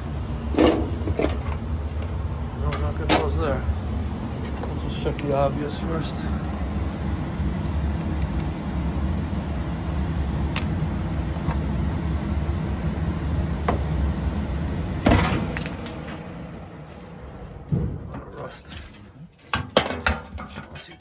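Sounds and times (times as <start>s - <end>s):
steady low rumble: 0.0s - 19.4s.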